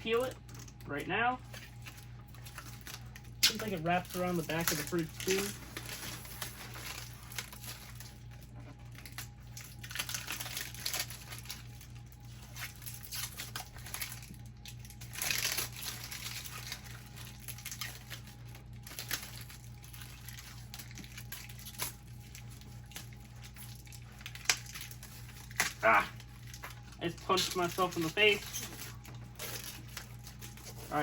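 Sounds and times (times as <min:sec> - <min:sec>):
plastic film crinkling: 0:00.0 - 0:31.0.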